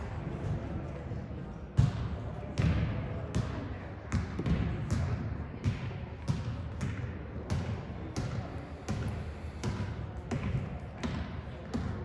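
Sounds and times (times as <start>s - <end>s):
voices in a gym: 0.0s - 12.0s.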